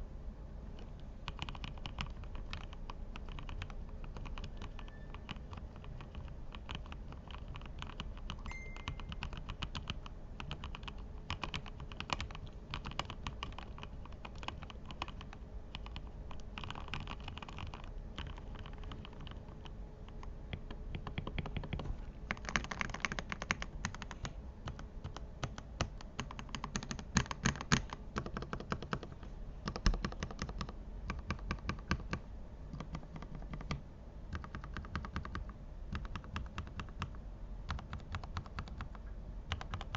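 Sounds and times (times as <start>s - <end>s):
mechanical keyboard typing: 1.2s - 39.9s.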